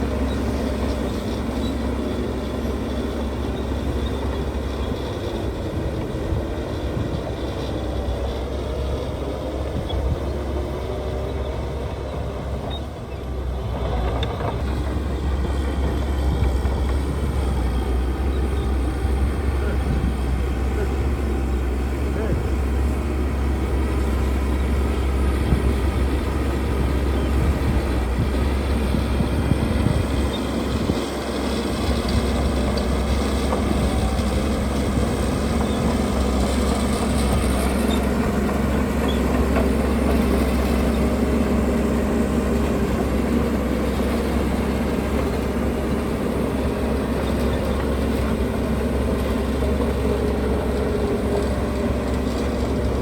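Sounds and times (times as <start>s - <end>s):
diesel machinery engine rumble: 0.0s - 53.0s.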